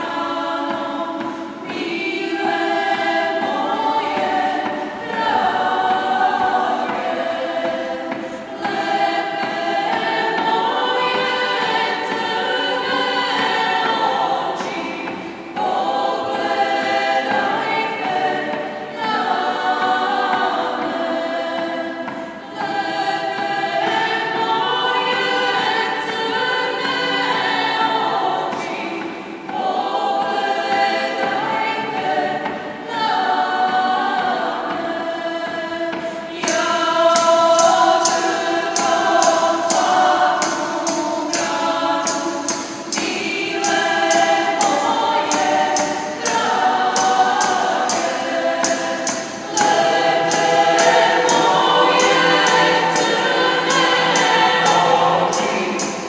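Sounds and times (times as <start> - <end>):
mixed choir singing: 0.0 - 56.0
crisp rhythmic ticking: 0.1 - 56.0.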